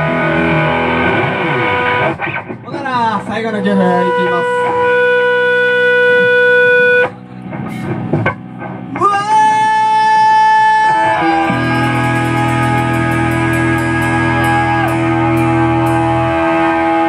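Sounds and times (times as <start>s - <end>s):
electric guitar notes: 0.0s - 17.0s
live rock band playing: 0.0s - 17.0s.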